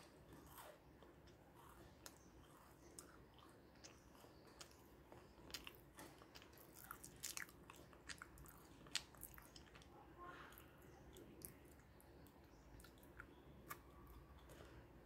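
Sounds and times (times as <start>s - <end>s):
crunchy cookie chewing: 0.0s - 15.0s.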